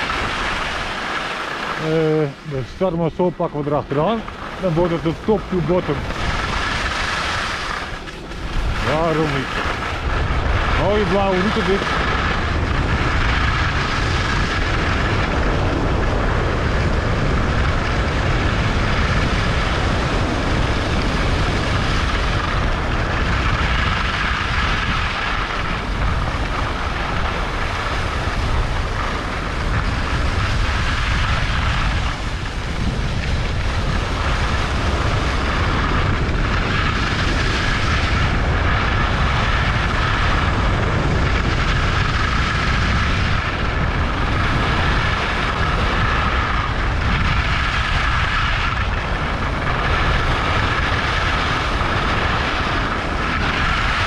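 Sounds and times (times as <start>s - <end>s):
skis sliding over snow: 0.0s - 54.0s
wind rushing over microphone: 0.0s - 54.0s.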